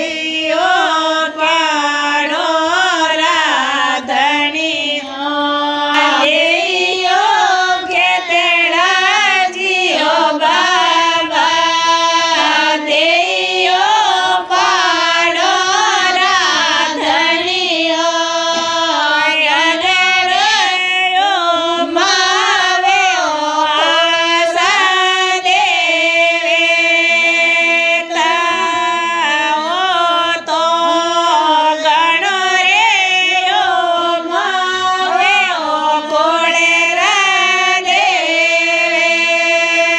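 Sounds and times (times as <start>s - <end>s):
woman singing devotional song: 0.0s - 39.9s.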